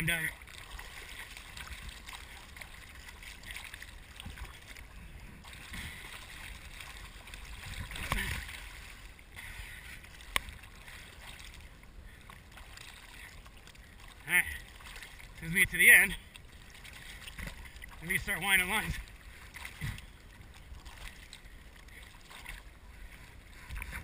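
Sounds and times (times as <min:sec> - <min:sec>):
water lapping and splashing: 0:00.0 - 0:24.0.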